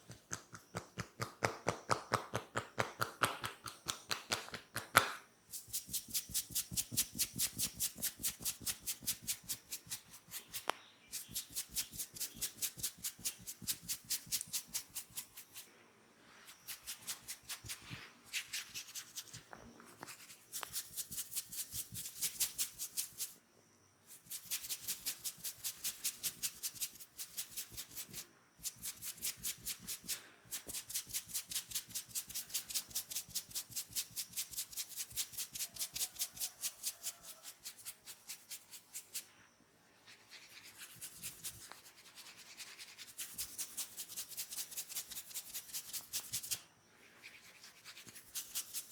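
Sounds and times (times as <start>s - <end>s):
hands massaging skin: 0.0s - 15.7s, 16.4s - 23.4s, 24.5s - 39.3s, 40.0s - 46.6s, 47.2s - 48.9s.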